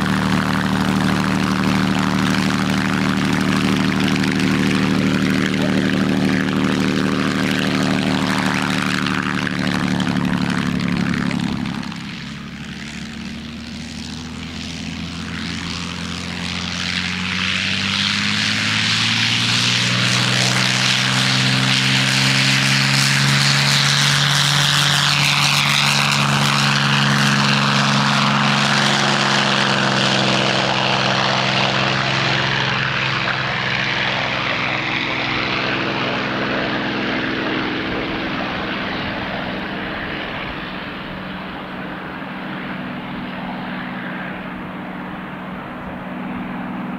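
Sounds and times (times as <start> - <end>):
propeller plane flypast: 0.0 - 46.9.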